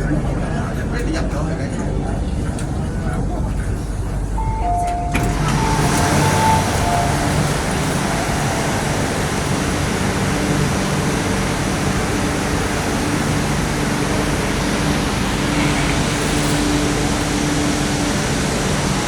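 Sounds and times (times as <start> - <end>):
train rushing and rumbling: 0.0 - 19.0.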